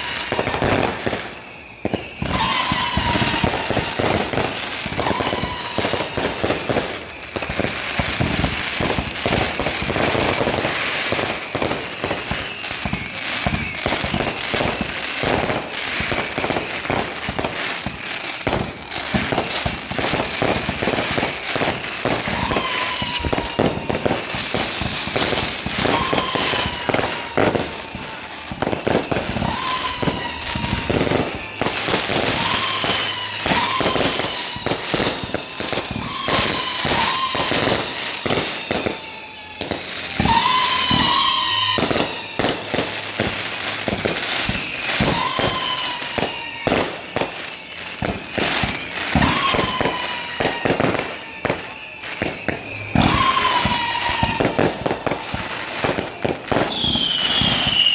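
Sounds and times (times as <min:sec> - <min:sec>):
fireworks bangs and crackling: 0:00.0 - 0:57.9
fireworks whistling: 0:00.0 - 0:57.9.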